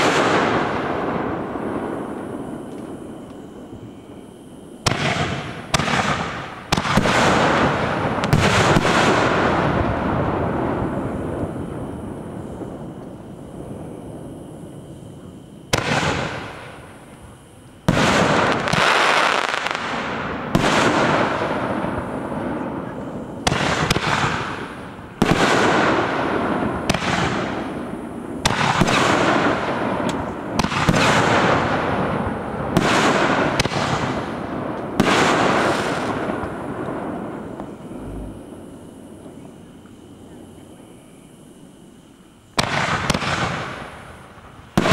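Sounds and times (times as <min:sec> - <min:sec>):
fireworks bangs: 0:00.0 - 0:39.7, 0:42.5 - 0:44.9.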